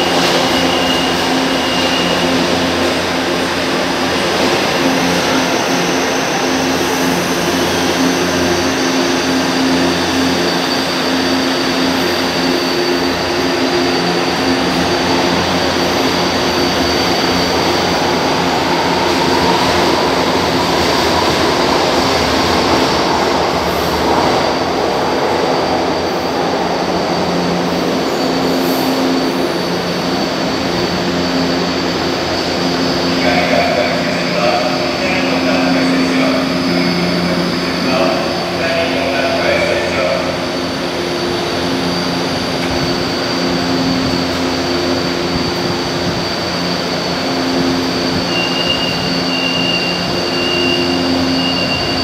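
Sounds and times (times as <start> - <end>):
electric traction whine: 0.0 - 52.0
train wheels rumbling: 0.0 - 52.0.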